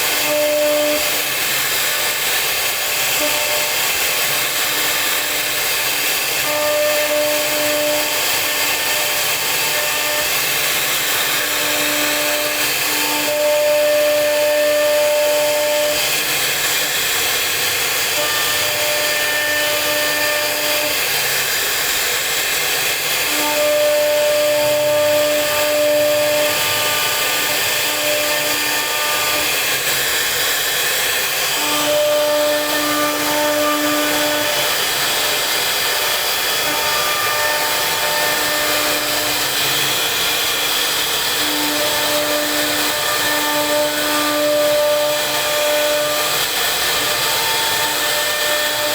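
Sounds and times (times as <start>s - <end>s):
router spindle carving wood: 0.0s - 48.9s.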